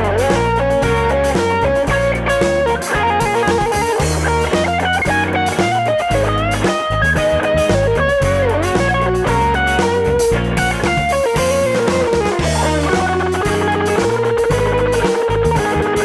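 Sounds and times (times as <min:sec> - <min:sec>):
bass guitar: 0:00.0 - 0:16.0
drum kit: 0:00.0 - 0:16.0
electric guitar lead: 0:00.0 - 0:16.0.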